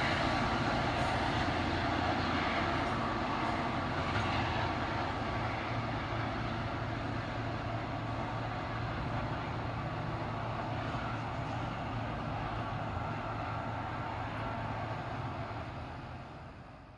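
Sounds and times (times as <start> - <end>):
train rumble: 0.0 - 16.9.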